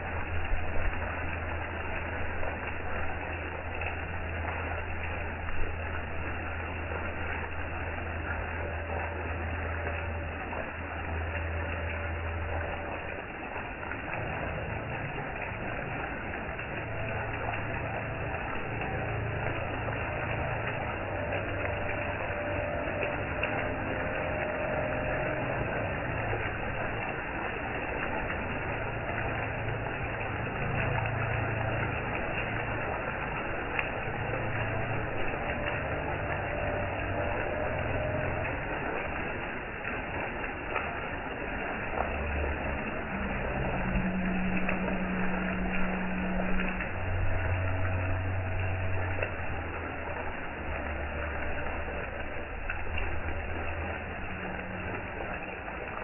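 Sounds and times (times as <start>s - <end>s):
low hum: 0.0s - 56.0s
rain falling: 0.0s - 56.0s.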